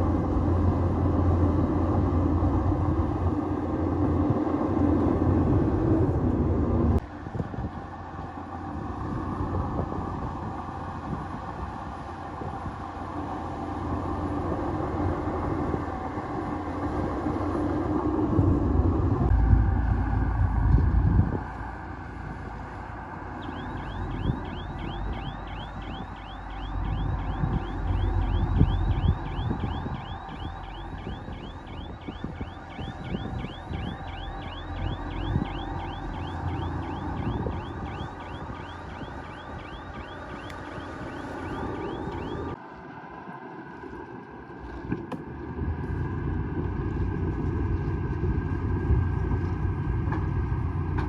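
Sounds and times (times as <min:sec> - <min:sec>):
bulldozer diesel engine rumbling: 0:00.0 - 0:42.6.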